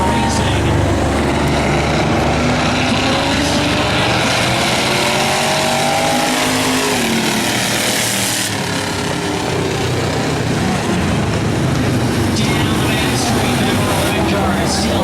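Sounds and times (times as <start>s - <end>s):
race car engines running hard: 0.0s - 15.0s.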